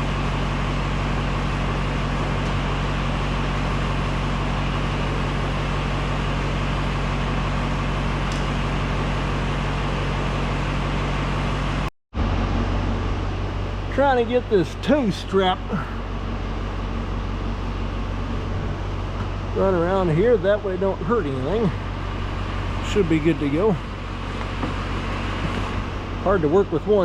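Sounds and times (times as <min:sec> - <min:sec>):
truck engine running steadily: 0:00.0 - 0:27.0.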